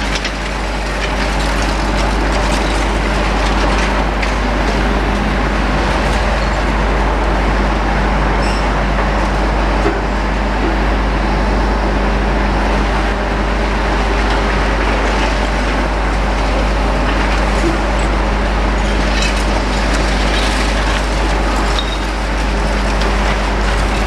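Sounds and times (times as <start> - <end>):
diesel machinery engines rumbling: 0.0 - 24.0.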